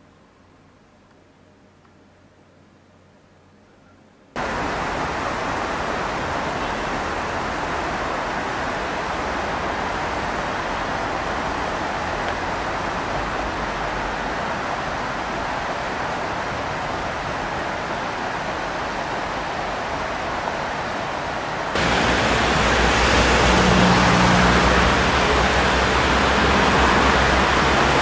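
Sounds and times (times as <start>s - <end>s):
river water rushing over weir: 4.4s - 28.0s.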